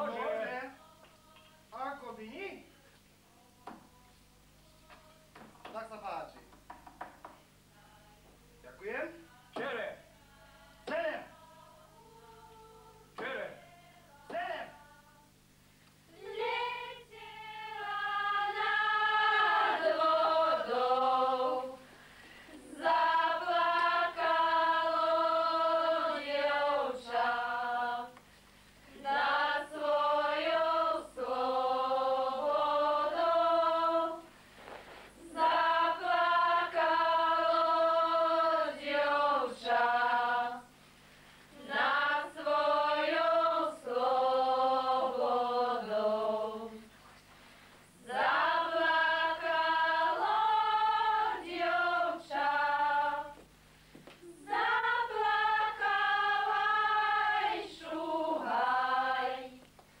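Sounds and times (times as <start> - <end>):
women singing unaccompanied: 0.0 - 1.7, 9.2 - 15.4, 16.1 - 34.4, 35.1 - 40.8, 41.5 - 46.9, 48.0 - 53.6, 54.2 - 59.8.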